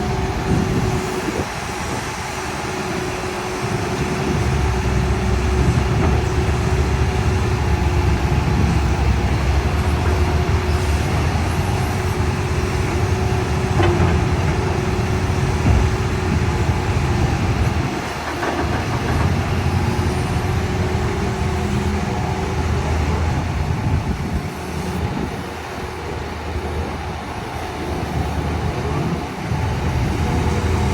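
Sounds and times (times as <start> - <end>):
diesel machinery engines droning: 0.0 - 30.9.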